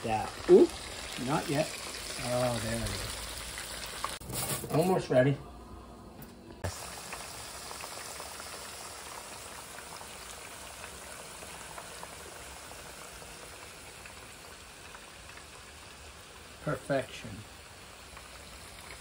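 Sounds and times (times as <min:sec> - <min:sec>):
fish deep-frying in oil: 0:00.0 - 0:04.3, 0:06.6 - 0:19.0
small oil crackles: 0:00.2 - 0:04.2, 0:06.6 - 0:19.0.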